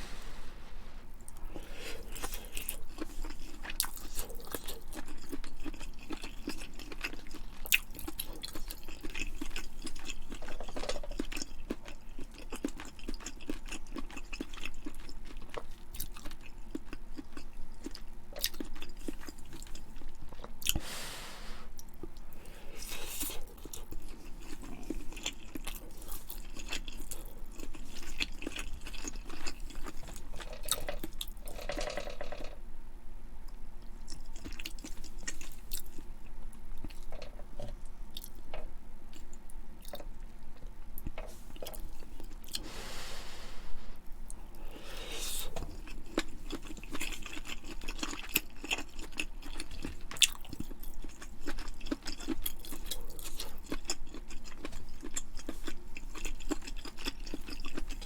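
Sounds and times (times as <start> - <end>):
person chewing food: 1.2 - 21.0, 21.8 - 32.5, 34.0 - 58.0.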